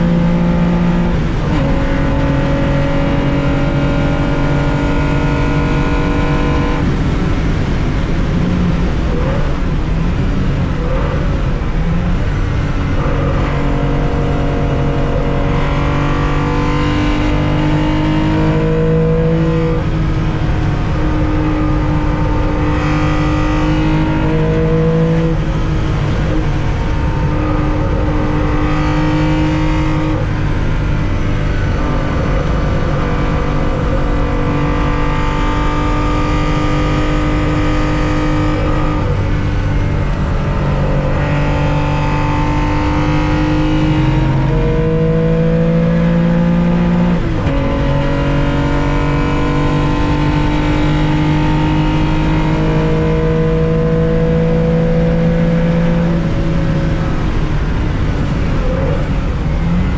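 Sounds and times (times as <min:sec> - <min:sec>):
racing car engine at full throttle: 0:00.0 - 0:59.9.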